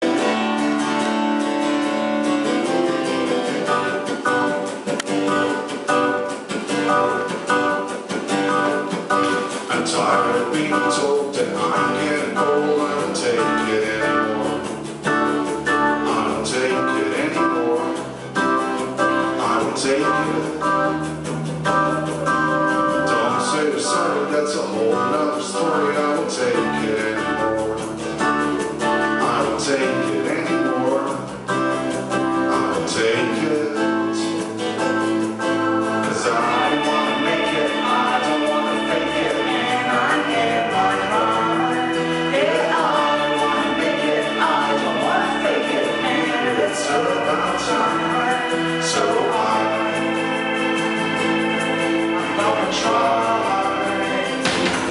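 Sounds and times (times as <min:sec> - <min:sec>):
band playing live: 0:00.0 - 0:54.9
guitar plucked and strummed: 0:00.0 - 0:54.9
person singing: 0:00.0 - 0:54.9.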